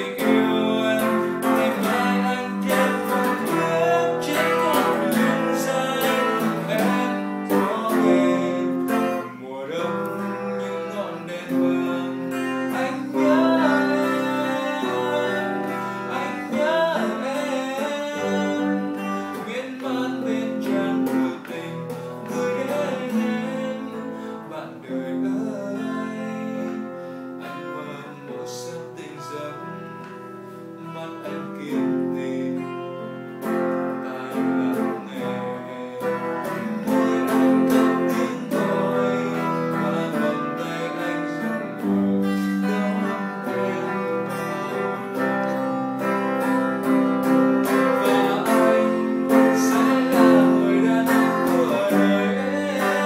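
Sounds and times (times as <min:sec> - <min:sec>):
acoustic guitar strumming chords: 0:00.0 - 0:53.0
man singing: 0:00.0 - 0:53.0.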